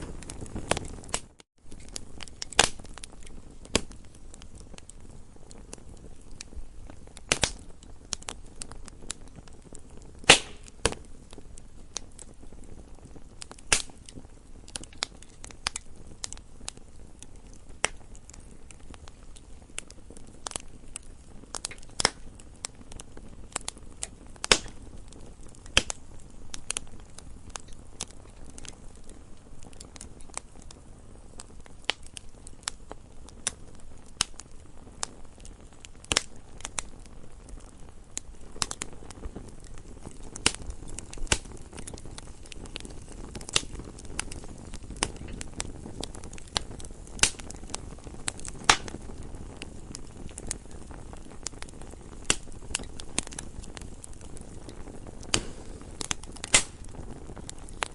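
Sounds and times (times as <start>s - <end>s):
burning wood popping and snapping: 0.0s - 57.9s
low rumble of flames: 0.0s - 57.9s.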